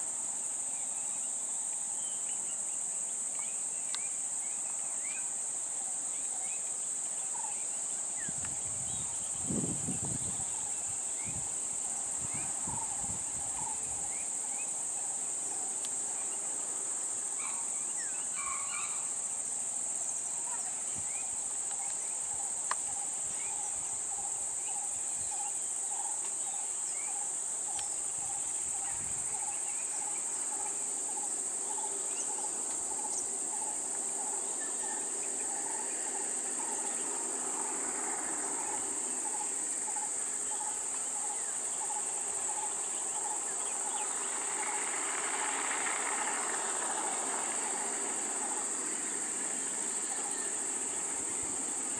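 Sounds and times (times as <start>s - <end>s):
faint insect chirps: 0.0s - 51.9s
high-pitched insect chorus: 0.0s - 51.9s.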